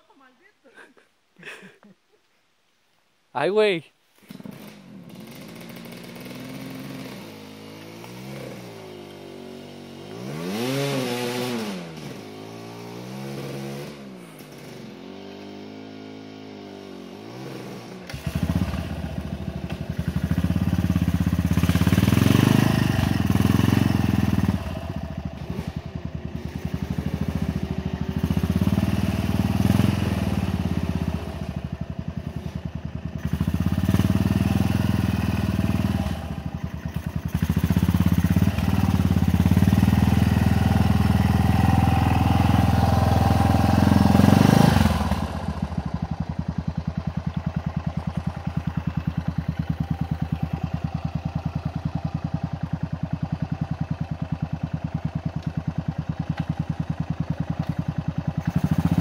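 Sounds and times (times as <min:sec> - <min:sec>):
distant motorcycle revving: 0:04.2 - 0:59.0
motorcycle engine close by: 0:04.2 - 0:59.0.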